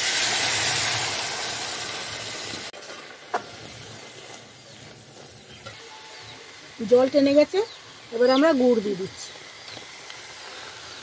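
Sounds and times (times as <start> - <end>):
water hissing in hot oil: 0.0 - 11.0.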